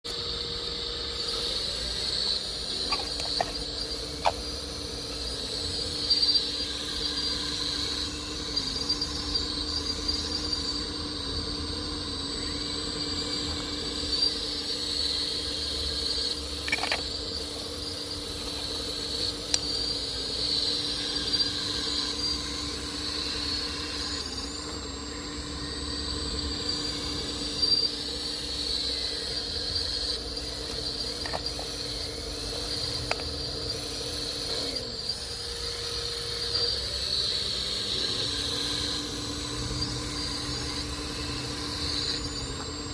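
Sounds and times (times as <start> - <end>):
model excavator motor whine: 0.0 - 42.9.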